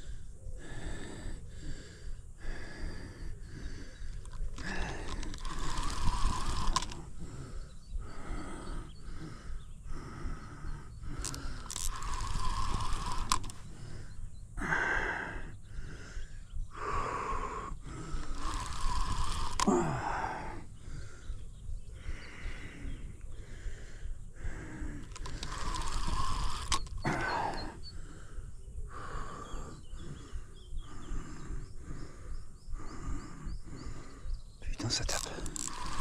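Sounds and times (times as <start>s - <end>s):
person gasping breaths: 0.0s - 36.0s.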